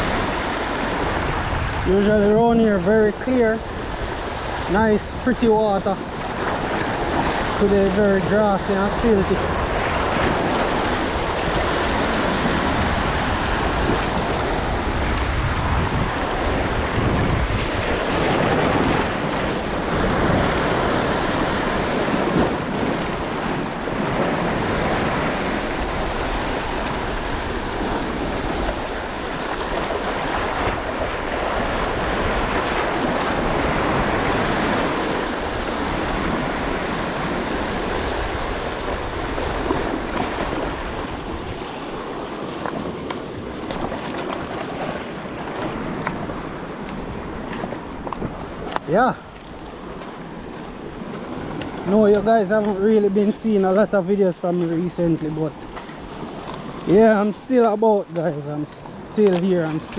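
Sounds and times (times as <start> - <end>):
waves breaking on rocks: 0.0 - 59.9
wind rumble on microphone: 0.0 - 59.9.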